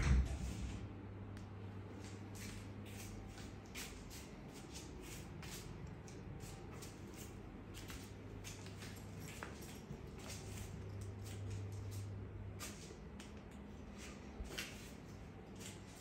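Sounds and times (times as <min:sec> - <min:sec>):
steady low hum: 0:00.0 - 0:16.0
shuffling steps and rustles: 0:01.8 - 0:16.0.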